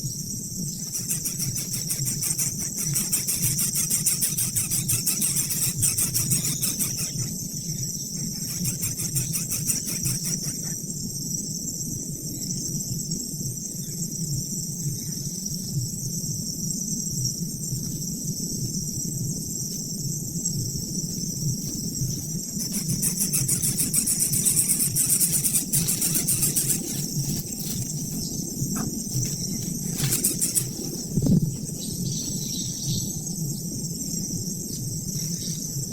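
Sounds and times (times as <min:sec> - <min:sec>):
continuous low rumble: 0:00.0 - 0:35.9
insects trilling: 0:00.0 - 0:35.9.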